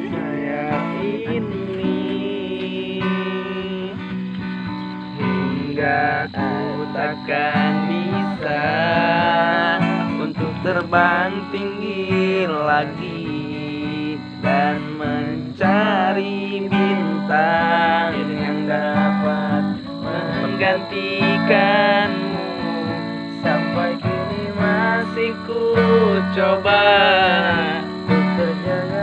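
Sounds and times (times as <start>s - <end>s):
person singing: 0.0s - 4.3s, 5.1s - 29.0s
acoustic guitar strumming: 0.0s - 29.0s.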